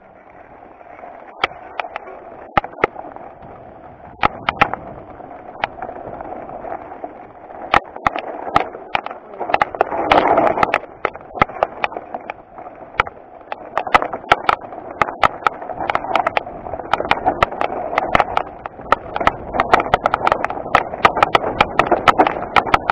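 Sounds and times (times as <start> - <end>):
bike knocking and rattling over rocks: 0.0 - 22.9
tyre and wind rush: 0.0 - 22.9.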